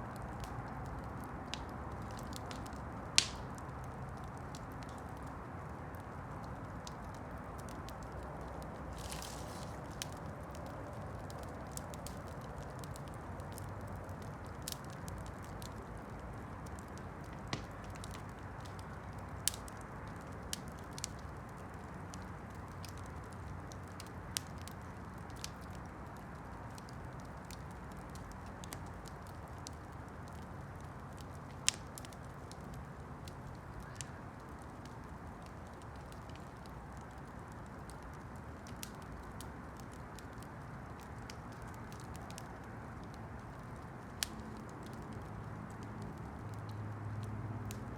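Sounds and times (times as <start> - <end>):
campfire burning with pops: 0.0 - 47.9.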